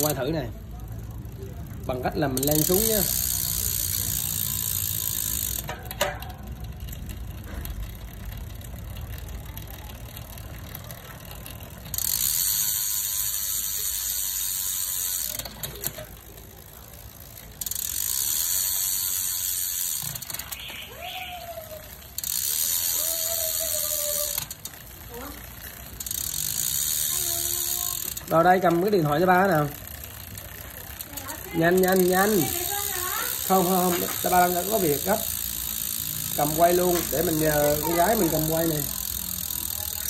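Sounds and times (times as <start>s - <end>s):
chain running over cassette: 0.0s - 40.0s
derailleur motor whirring: 0.0s - 40.0s
freehub ratchet buzzing: 0.0s - 40.0s.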